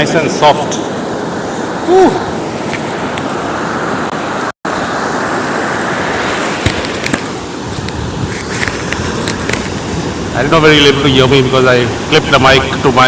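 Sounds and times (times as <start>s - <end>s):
surf breaking on beach: 0.0s - 13.0s
wind on microphone: 0.8s - 13.0s.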